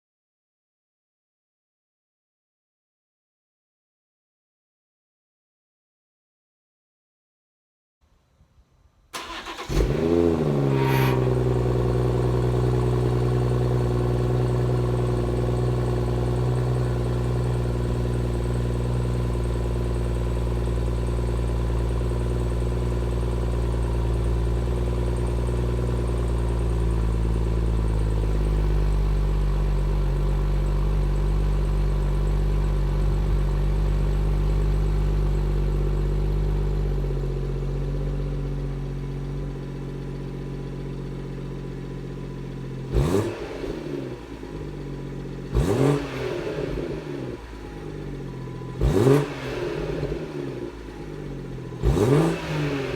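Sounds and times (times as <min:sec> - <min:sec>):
car engine starting and idling: 0:09.1 - 0:52.9.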